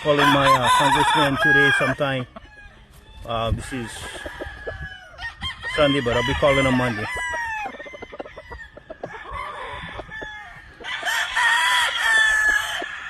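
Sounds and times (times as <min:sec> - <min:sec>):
roosters crowing: 0:00.0 - 0:13.0.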